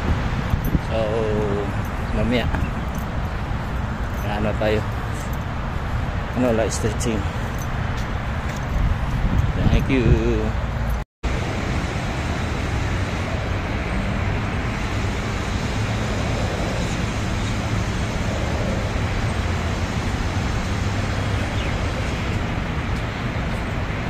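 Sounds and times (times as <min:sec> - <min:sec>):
outdoor rumble and hiss: 0:00.0 - 0:24.0.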